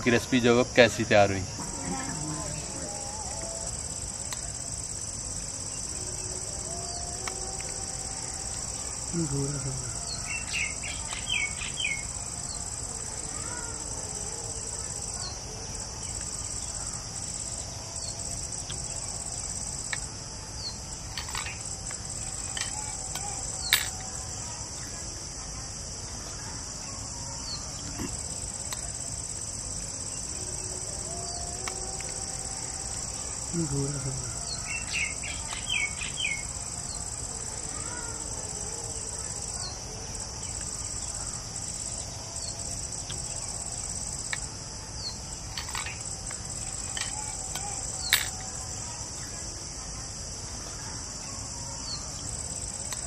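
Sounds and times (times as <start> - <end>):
insect chorus: 0.0 - 53.0.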